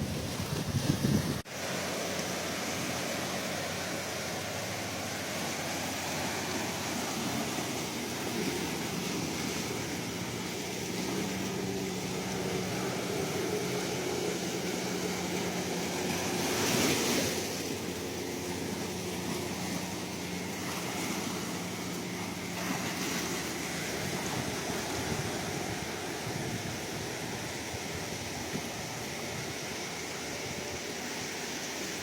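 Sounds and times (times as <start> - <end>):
ocean surf washing: 0.0 - 32.0.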